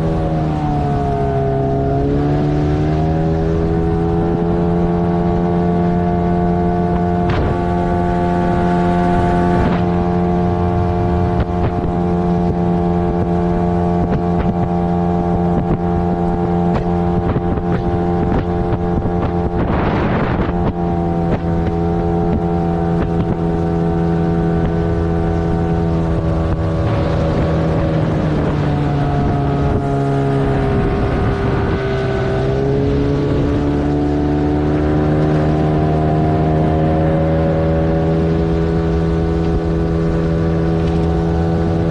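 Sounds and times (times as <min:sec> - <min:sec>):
outboard motor running: 0:00.0 - 0:41.9
wind on microphone: 0:00.0 - 0:41.9.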